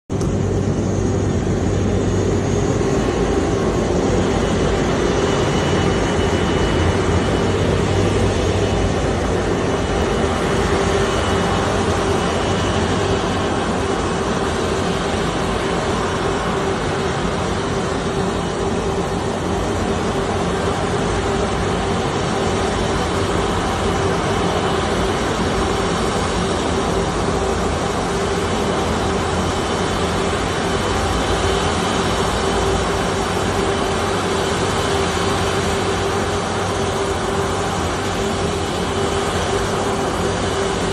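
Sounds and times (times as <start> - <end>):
jet engines running: 0.1 - 40.9.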